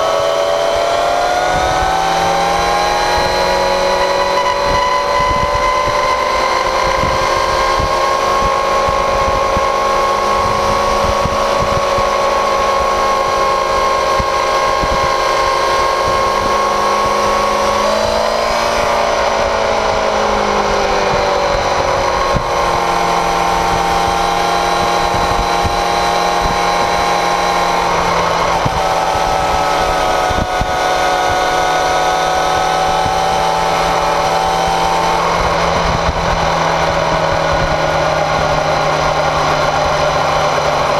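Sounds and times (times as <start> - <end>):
motorcycle engine running: 0.0 - 40.9
wind buffeting: 0.0 - 40.9.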